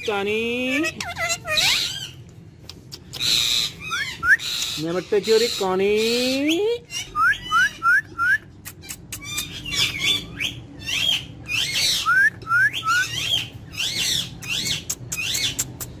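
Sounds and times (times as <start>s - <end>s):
parrot chirping: 0.1s - 16.0s
parrot squawking: 0.4s - 2.2s, 3.0s - 15.9s.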